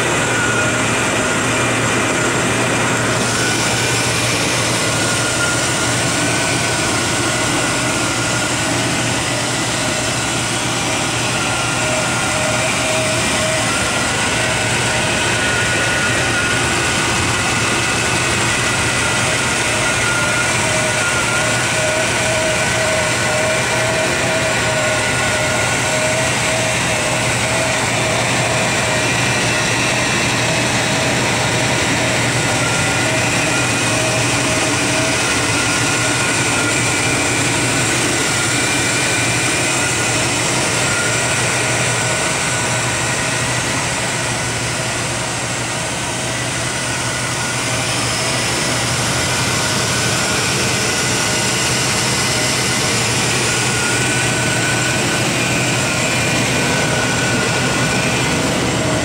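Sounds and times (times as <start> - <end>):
car engine idling: 0.0 - 59.0
steady whine: 0.0 - 59.0.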